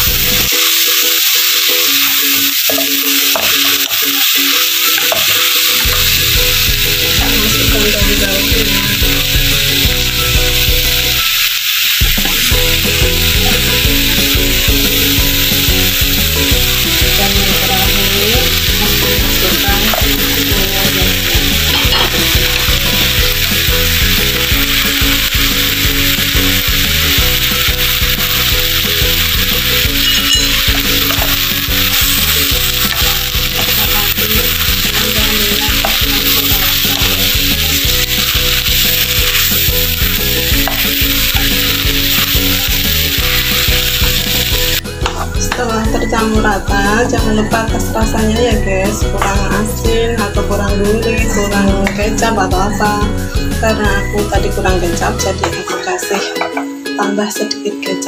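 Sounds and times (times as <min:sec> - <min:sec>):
food sizzling in a wok: 0:00.0 - 0:55.2.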